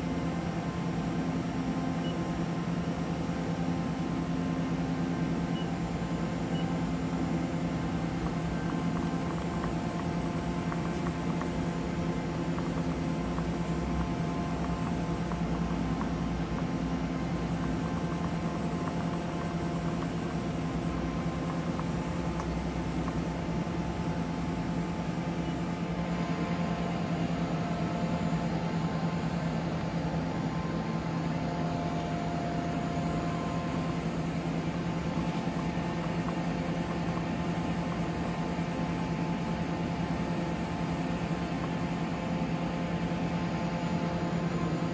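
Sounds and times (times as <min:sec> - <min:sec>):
faint high-pitched whines: 0:00.0 - 0:44.9
lathe machine hum: 0:00.0 - 0:44.9.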